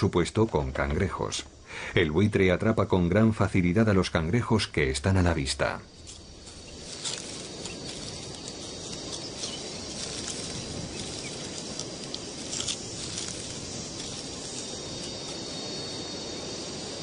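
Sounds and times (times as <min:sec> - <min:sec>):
faint high insect drone: 0:00.0 - 0:17.0
steady outdoor hiss: 0:00.0 - 0:17.0.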